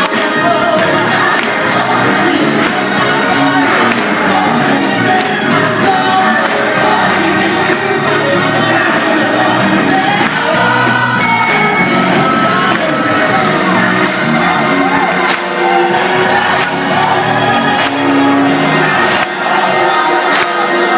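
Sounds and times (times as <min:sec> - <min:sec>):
crowd noise: 0:00.0 - 0:20.9
loud live music with singing: 0:00.0 - 0:20.9.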